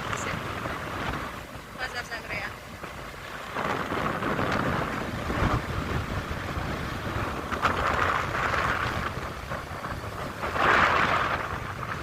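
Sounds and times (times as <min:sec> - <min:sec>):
moving vehicle rumble: 0:00.0 - 0:12.0
wind buffeting microphone: 0:00.0 - 0:12.0.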